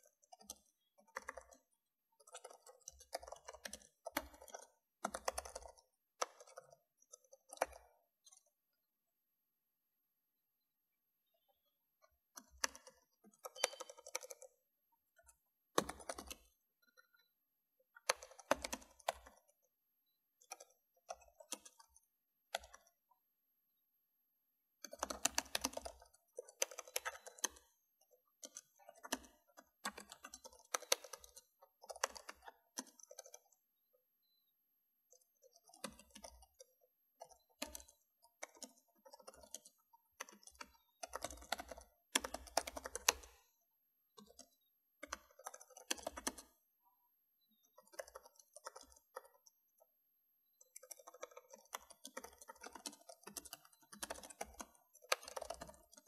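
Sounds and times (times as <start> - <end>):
keyboard typing clicks: 0.0 - 8.5, 11.4 - 17.3, 18.0 - 19.6, 20.4 - 23.0, 24.8 - 33.6, 35.1 - 43.6, 44.2 - 46.6, 47.4 - 49.8, 50.5 - 56.0.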